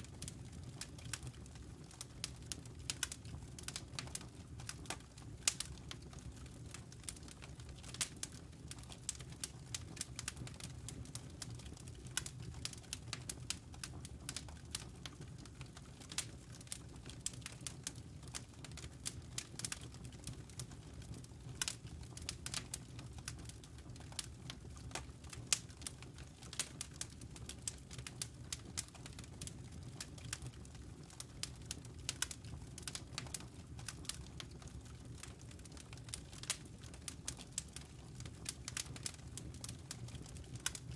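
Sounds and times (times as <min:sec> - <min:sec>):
campfire crackling and popping: 0:00.0 - 0:40.9
low rumble of fire: 0:00.0 - 0:40.9.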